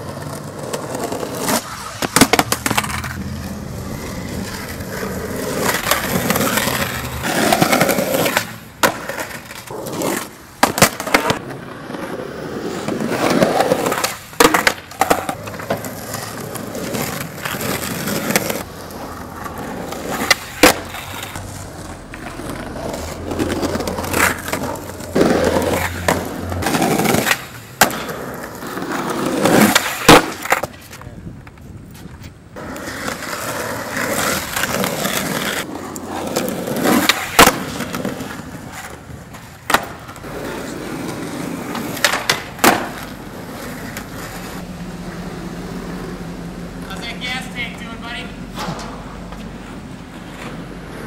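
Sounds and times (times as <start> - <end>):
skateboard clacks and impacts: 0.0 - 12.2, 12.8 - 31.6, 32.6 - 44.6
skateboard wheels rolling on asphalt: 0.0 - 51.0.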